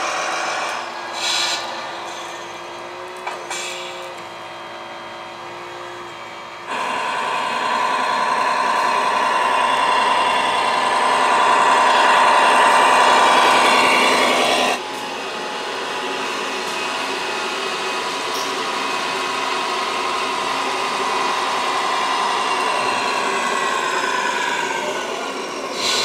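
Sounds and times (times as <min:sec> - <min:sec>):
raspy mechanical whine of model truck: 0:00.0 - 0:26.0.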